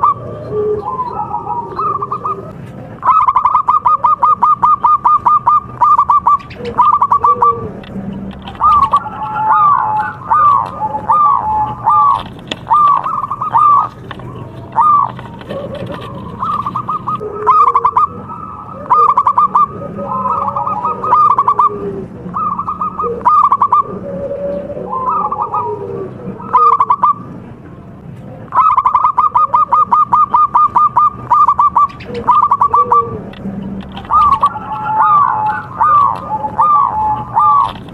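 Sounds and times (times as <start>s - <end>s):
doves cooing: 0.0s - 37.9s.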